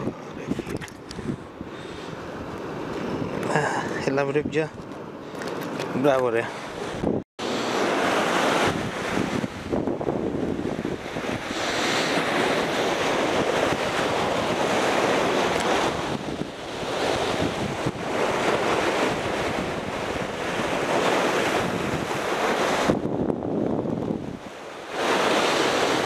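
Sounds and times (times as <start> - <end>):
sea waves breaking over rocks: 0.0 - 26.0
wind buffeting microphone: 0.0 - 26.0.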